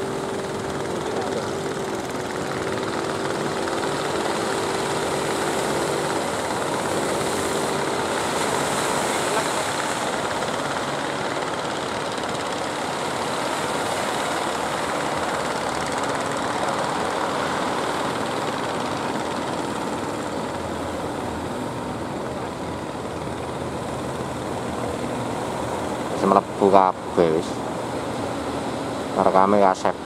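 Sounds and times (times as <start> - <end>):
boat engine running: 0.0 - 30.0
waves breaking: 0.0 - 30.0.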